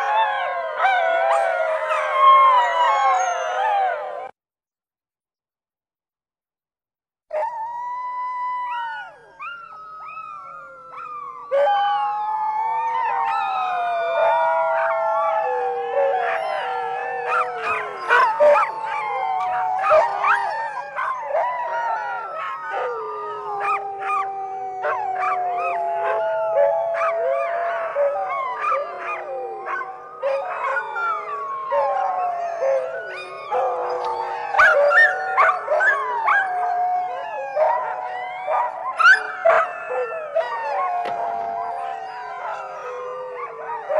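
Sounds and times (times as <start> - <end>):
canines howling: 0.0 - 4.3, 7.3 - 43.9.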